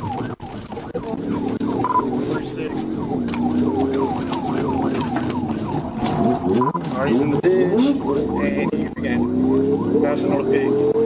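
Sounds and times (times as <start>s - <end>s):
car engine running: 0.0s - 11.0s
police siren yelping: 0.0s - 11.0s.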